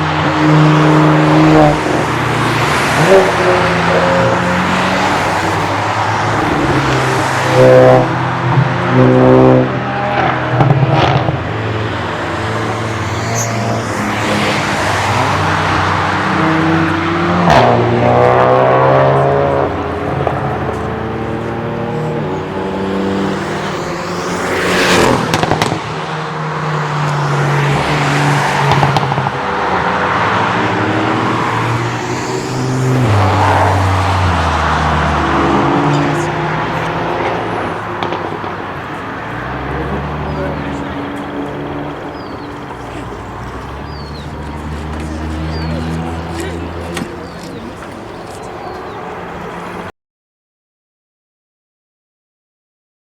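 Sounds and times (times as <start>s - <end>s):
race cars passing: 0.0s - 49.9s.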